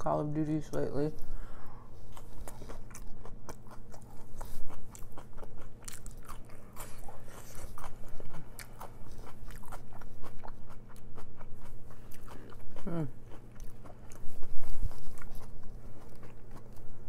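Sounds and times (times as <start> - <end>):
person chewing crunchy food: 0.7 - 17.0.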